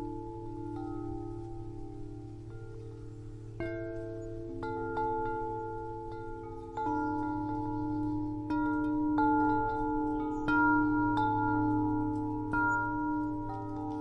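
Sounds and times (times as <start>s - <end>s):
wind chimes ringing: 0.0s - 14.0s.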